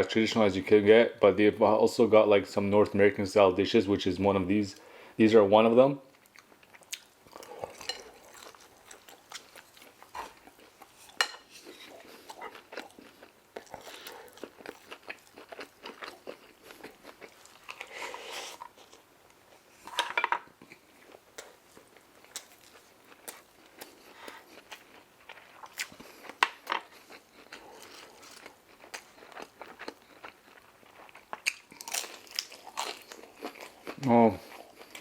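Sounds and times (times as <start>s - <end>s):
crunching and chewing food: 6.1s - 35.0s.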